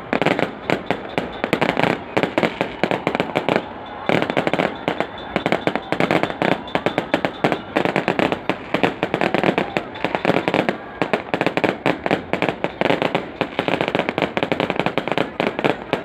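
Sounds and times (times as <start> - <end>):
crowd voices: 0.0 - 16.0
fireworks cracking and banging: 0.0 - 16.0.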